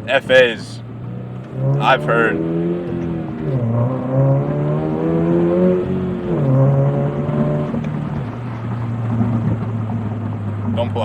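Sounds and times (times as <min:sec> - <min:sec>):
car engine and exhaust: 0:00.0 - 0:11.0.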